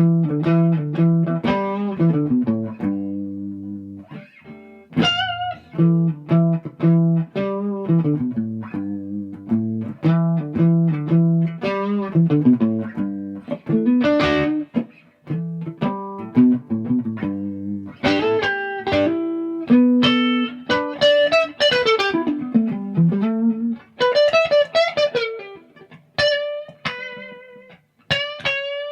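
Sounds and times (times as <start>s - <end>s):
electric guitar through an amp: 0.0s - 28.9s.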